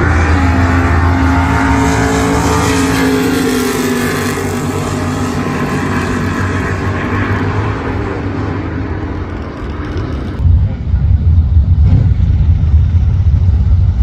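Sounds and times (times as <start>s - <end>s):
car engines at full throttle: 0.0s - 14.0s.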